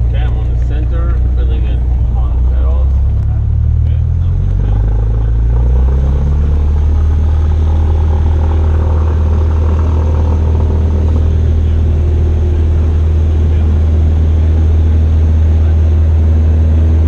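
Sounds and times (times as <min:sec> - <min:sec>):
aircraft engine and propeller drone: 0:00.0 - 0:17.0.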